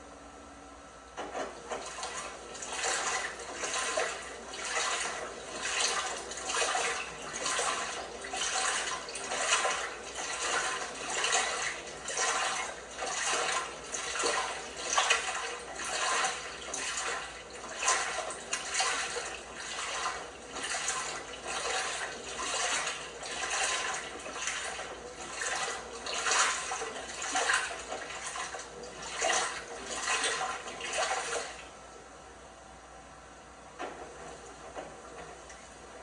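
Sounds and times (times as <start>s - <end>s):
washing machine drum swishing: 1.2s - 31.8s, 33.8s - 36.0s.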